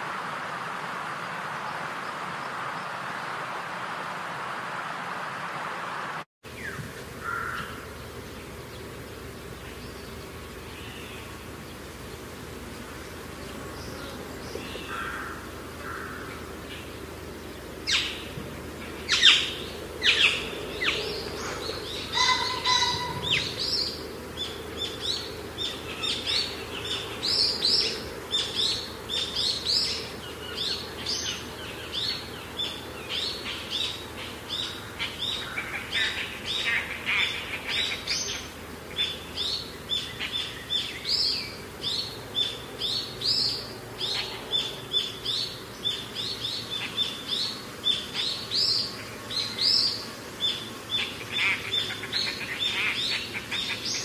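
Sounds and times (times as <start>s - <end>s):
faint steady background noise: 0.0s - 54.0s
birds chirping: 6.5s - 54.0s.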